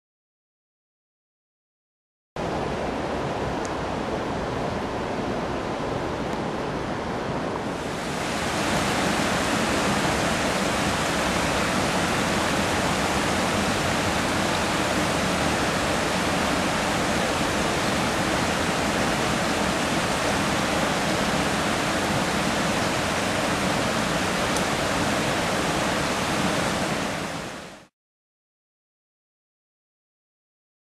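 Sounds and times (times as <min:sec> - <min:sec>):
stream water rushing: 0:02.4 - 0:27.9.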